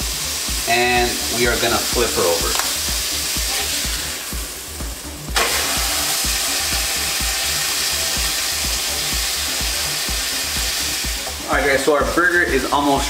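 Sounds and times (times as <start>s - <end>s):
background music with beat: 0.0s - 13.0s
patty sizzling in a skillet: 0.0s - 13.0s.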